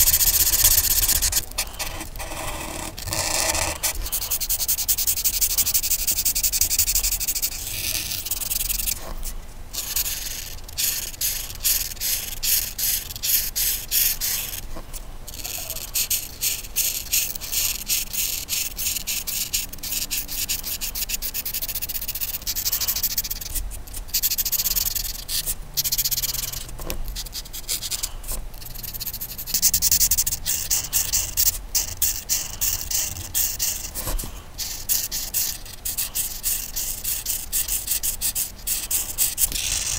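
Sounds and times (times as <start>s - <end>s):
crayon rubbing on paper: 0.0s - 14.7s, 15.3s - 39.9s.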